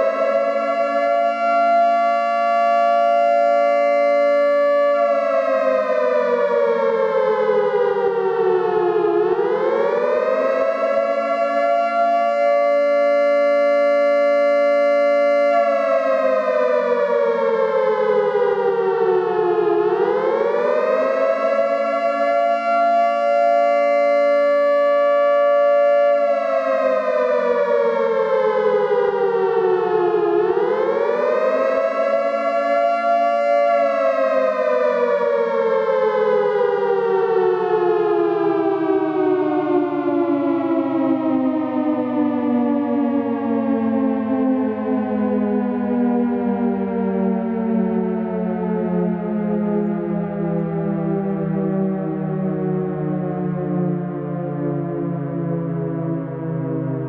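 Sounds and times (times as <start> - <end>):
warning siren rising and falling: 0.0 - 57.0.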